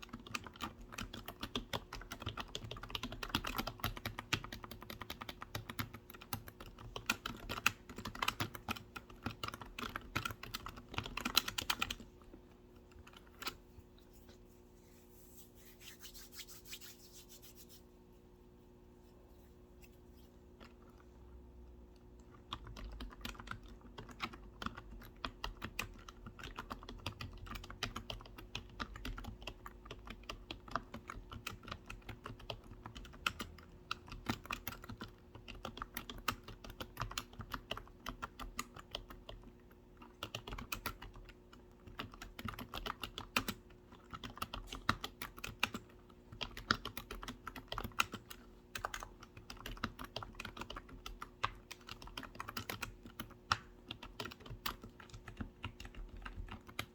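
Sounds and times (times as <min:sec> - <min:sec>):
keyboard typing: 0:00.0 - 0:13.6, 0:22.2 - 0:39.4, 0:40.0 - 0:56.9.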